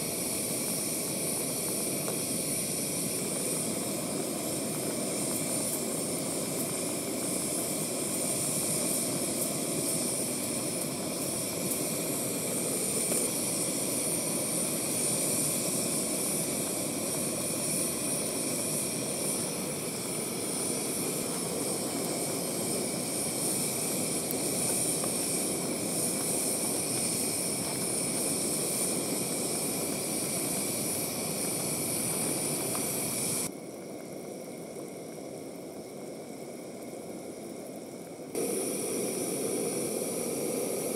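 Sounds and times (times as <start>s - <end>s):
broth boiling hard: 0.0s - 40.9s.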